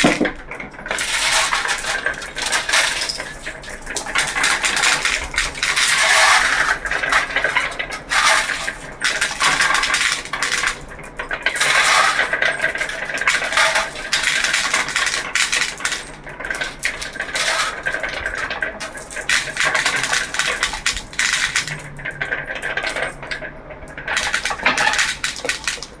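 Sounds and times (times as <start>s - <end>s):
marbles rattling down marble run: 0.0s - 26.0s.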